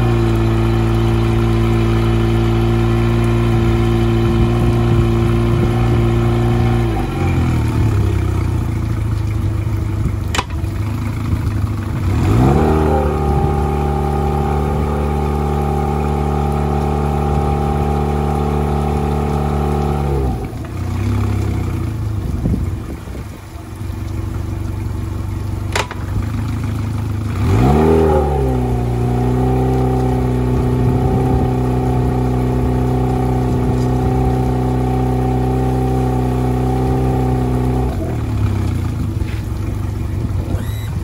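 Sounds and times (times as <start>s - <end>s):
outboard motor revving and idling: 0.0s - 41.0s.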